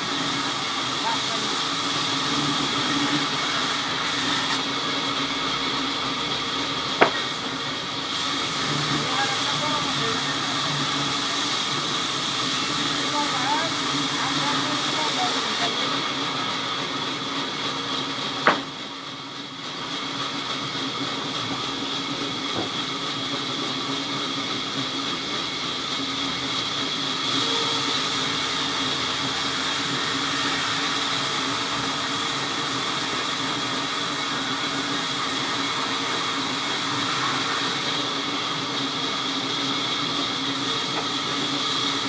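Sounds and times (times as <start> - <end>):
sawmill machinery drone: 0.0 - 42.0.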